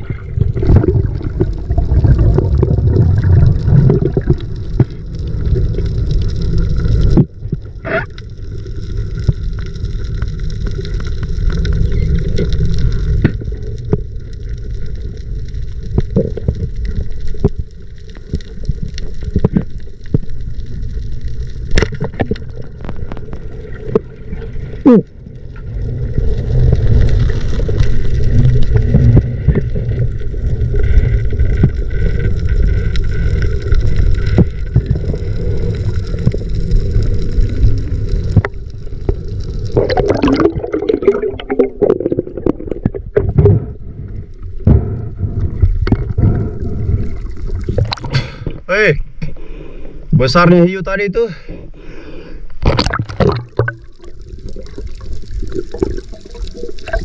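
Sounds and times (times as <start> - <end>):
muffled underwater rumble: 0.0 - 50.4, 51.5 - 57.0.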